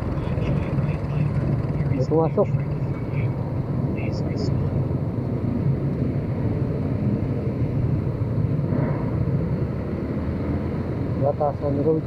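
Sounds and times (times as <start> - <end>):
motorcycle engine rumble: 0.0 - 11.7.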